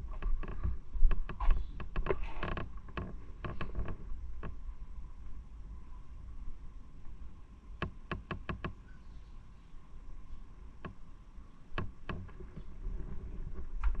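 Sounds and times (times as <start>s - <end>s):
faint low rumble: 0.0s - 14.0s.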